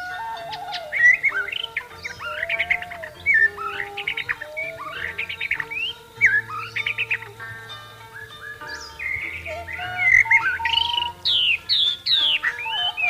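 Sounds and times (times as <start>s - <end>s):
soft flute music: 0.0s - 13.0s
songbird whistles and trills: 0.0s - 13.0s.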